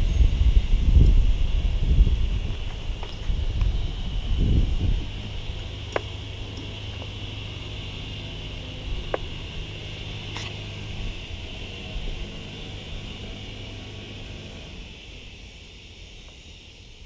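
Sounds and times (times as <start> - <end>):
mower engine running: 0.0 - 16.8
high hiss: 0.0 - 17.0.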